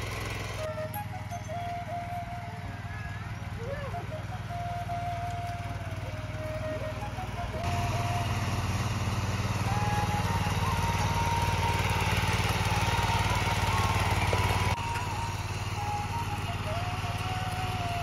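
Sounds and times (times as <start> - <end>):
tiller engine running under load: 0.0 - 18.0.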